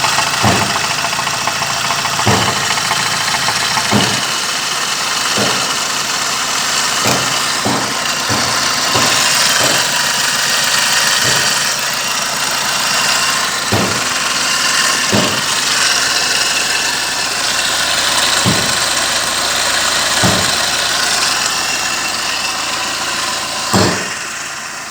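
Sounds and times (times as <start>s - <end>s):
diesel engine idling: 0.0s - 24.9s
short thumps: 0.4s - 4.6s, 5.2s - 21.2s, 23.7s - 24.3s.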